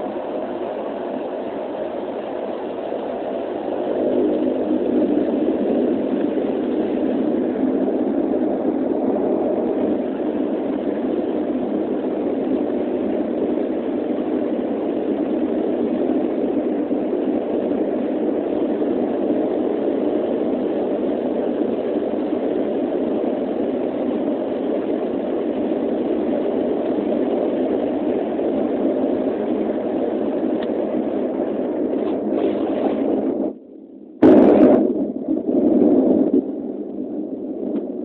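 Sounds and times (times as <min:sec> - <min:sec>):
turboprop engines droning in cabin: 0:00.0 - 0:38.0.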